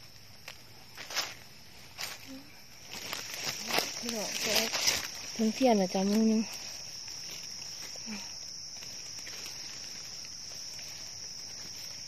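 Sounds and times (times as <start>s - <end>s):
clicks and rustles in leaf litter: 0.0s - 12.0s
insects buzzing high-pitched: 0.0s - 12.0s.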